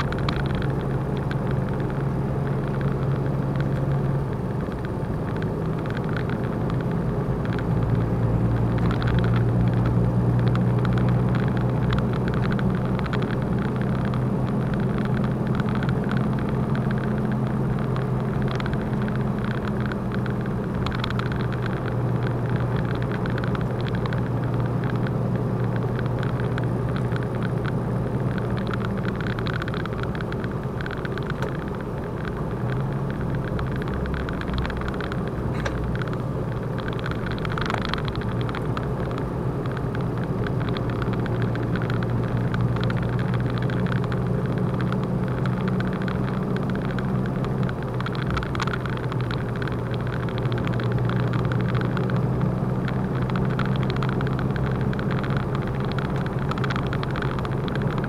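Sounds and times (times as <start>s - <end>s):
diesel truck engine running: 0.0s - 58.0s
tyre and road noise: 0.0s - 58.0s.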